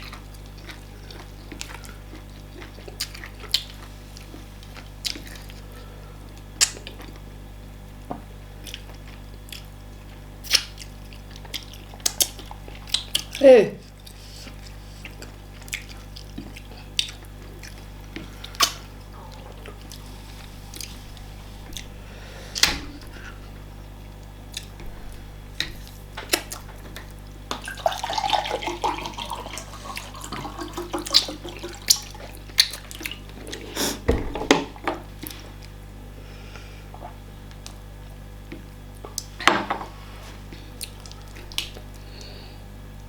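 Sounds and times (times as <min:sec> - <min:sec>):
wet eating sounds: 0:00.0 - 0:07.3, 0:08.5 - 0:35.8, 0:40.3 - 0:42.5.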